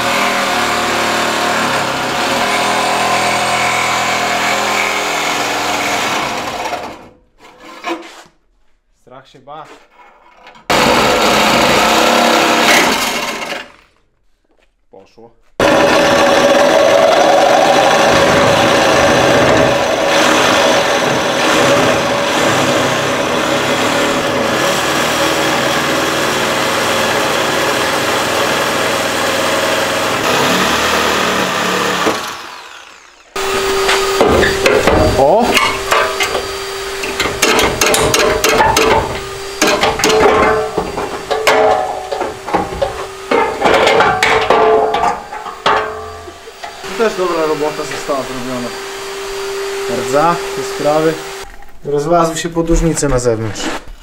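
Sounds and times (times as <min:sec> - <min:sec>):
reciprocating saw cutting metal: 0:00.0 - 0:08.0, 0:10.7 - 0:13.8, 0:15.6 - 0:51.5.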